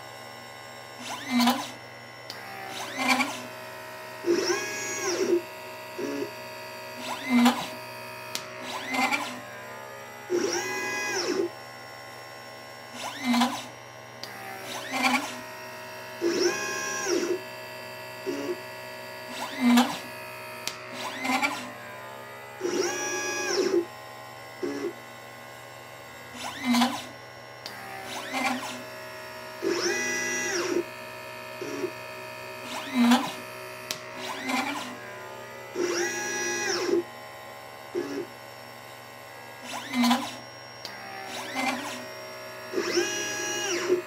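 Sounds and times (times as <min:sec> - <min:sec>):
short whirs and clicks: 0:00.0 - 0:44.0
stepper motors whining: 0:00.9 - 0:25.2, 0:25.9 - 0:44.0.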